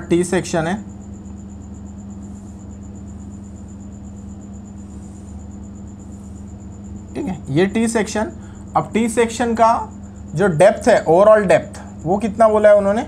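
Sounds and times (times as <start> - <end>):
low electrical hum: 0.0 - 13.0
thin high whine: 0.0 - 13.0.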